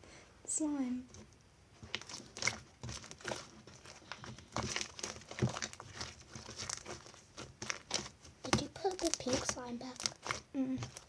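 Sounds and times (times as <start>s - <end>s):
slime popping and crackling: 1.8s - 11.0s.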